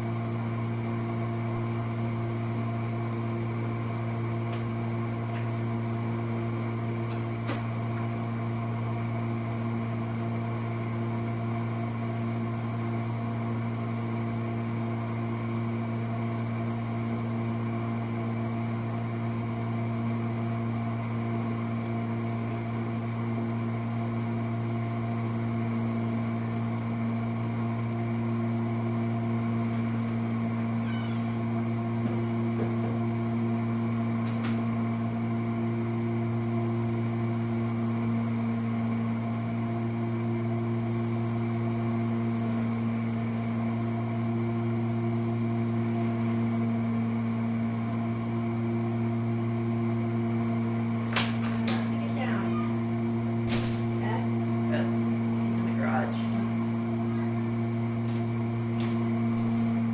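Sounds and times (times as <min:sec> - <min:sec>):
dishwasher pump motor hum: 0:00.0 - 0:59.9.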